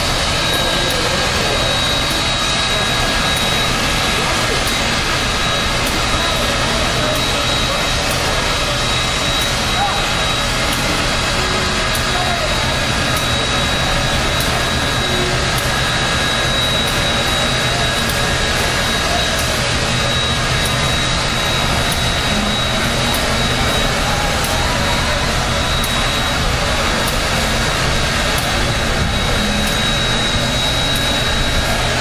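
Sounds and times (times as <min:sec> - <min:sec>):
steam hissing: 0:00.0 - 0:32.0
thin high whine: 0:00.0 - 0:32.0.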